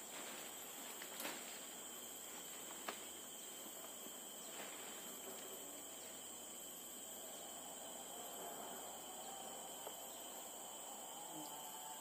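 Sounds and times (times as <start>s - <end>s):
forest insects droning: 0.0s - 12.0s.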